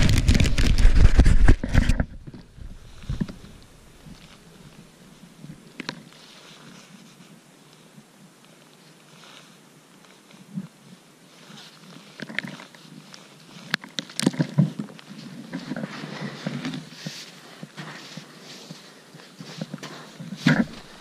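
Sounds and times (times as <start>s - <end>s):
crunching of snow: 0.0s - 21.0s
fabric rustling: 0.0s - 21.0s.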